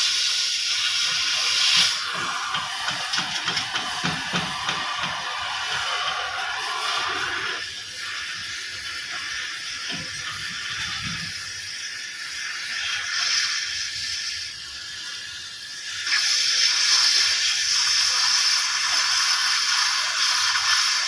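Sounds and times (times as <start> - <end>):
arc welding sizzling hiss: 0.0 - 21.0.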